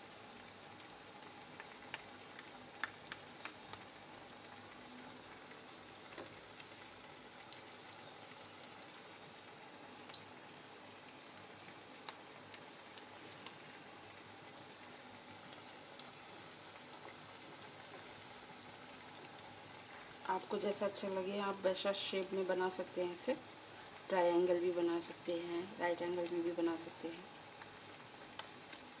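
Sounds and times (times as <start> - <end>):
food frying in oil: 0.0 - 29.0.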